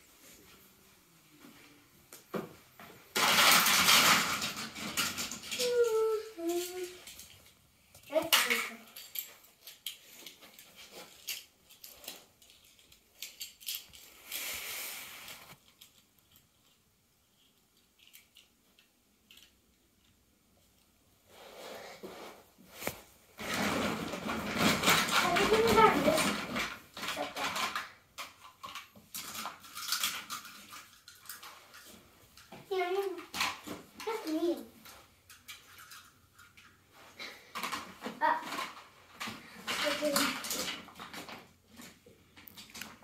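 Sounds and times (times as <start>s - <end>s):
toy cars clicking together: 3.1s - 14.4s, 15.6s - 20.8s, 23.4s - 36.8s, 37.5s - 43.0s.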